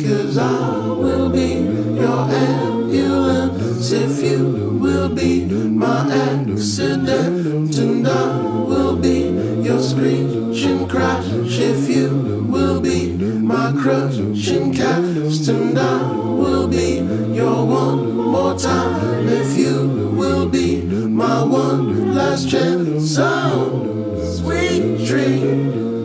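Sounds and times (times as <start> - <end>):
a cappella voices singing: 0.0 - 26.0
low sung bass line: 0.1 - 14.9, 15.5 - 26.0.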